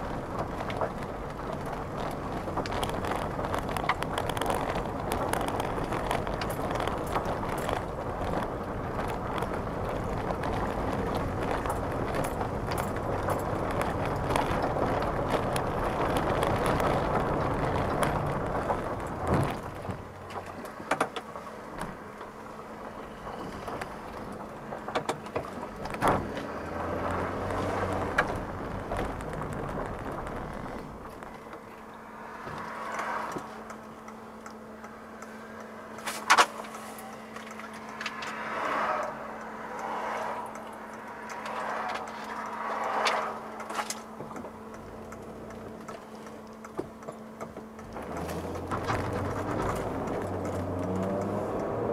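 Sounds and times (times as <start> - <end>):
car engine running: 0.0 - 51.9
road and tyre noise: 0.0 - 51.9.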